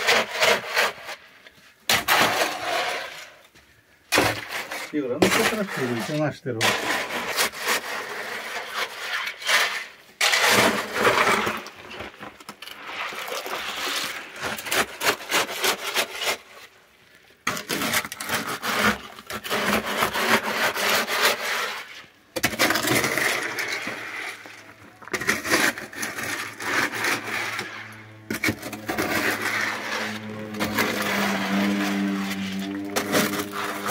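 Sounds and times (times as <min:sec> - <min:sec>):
shovel scraping wet concrete: 0:00.0 - 0:03.5, 0:04.1 - 0:16.8, 0:17.4 - 0:33.9.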